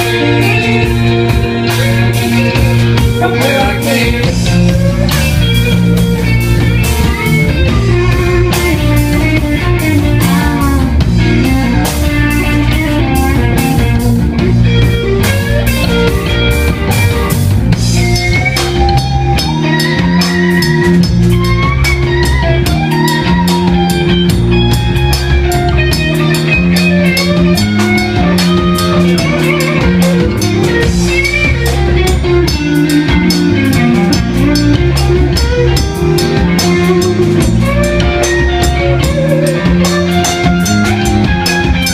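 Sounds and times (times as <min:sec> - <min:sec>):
drum kit beat: 0:00.0 - 0:41.9
electric guitar: 0:00.0 - 0:41.9.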